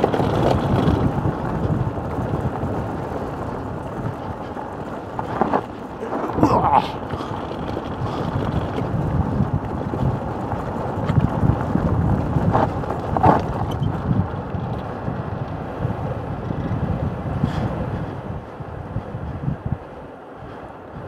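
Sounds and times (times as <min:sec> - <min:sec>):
cart rattling over bumps: 0:00.0 - 0:17.7
wheels rumbling on gravel: 0:00.0 - 0:21.0
wind buffeting microphone: 0:00.0 - 0:21.0.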